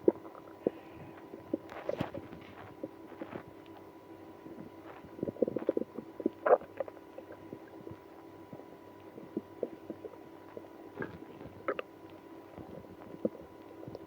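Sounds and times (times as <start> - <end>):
stomach gurgling: 0.0 - 14.0.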